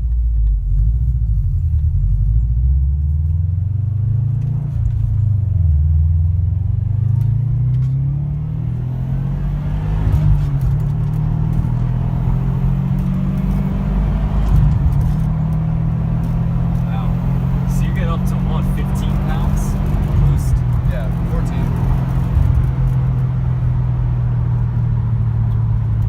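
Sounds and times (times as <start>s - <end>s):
turbocharged engine accelerating: 0.0s - 26.0s.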